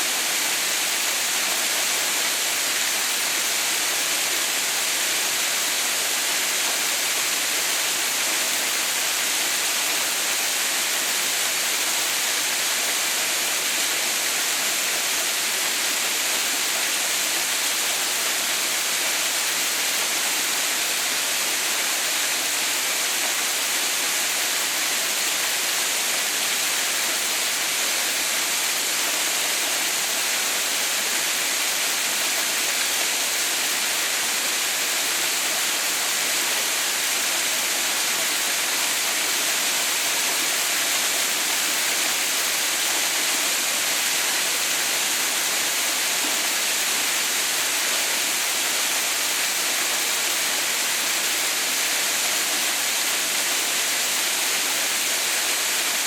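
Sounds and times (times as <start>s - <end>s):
waterfall rushing hiss: 0.0s - 56.0s.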